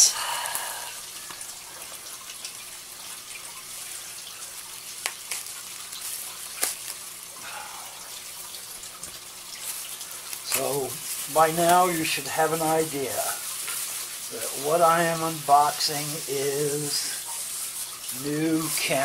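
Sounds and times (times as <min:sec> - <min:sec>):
trickle of running water: 0:00.0 - 0:19.0.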